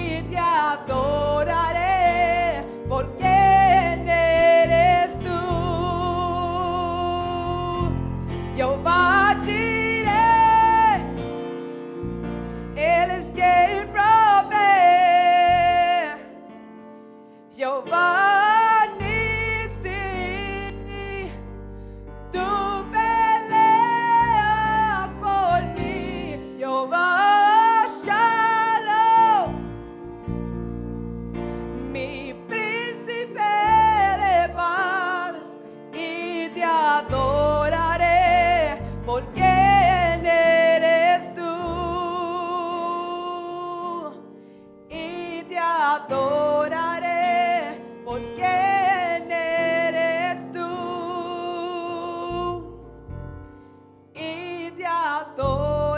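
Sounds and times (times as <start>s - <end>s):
person singing with vibrato: 0.0s - 30.2s, 31.6s - 53.0s, 53.7s - 55.9s.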